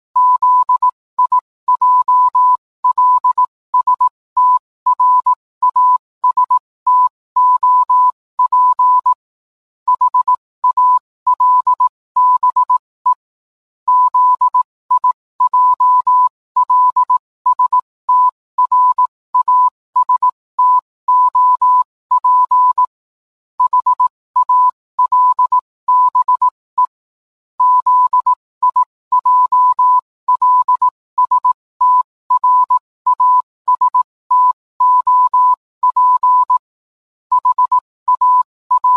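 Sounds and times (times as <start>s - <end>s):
morse code beeps: 0.2s - 9.2s, 9.9s - 13.2s, 13.9s - 22.9s, 23.6s - 26.9s, 27.6s - 36.7s, 37.3s - 38.9s.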